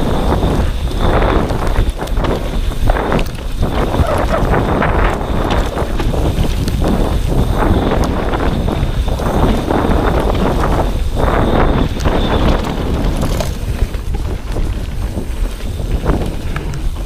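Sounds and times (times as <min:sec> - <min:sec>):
bike clicks and rattles: 0:00.0 - 0:17.0
bike tyre noise: 0:00.0 - 0:17.0
wind buffeting microphone: 0:00.0 - 0:17.0.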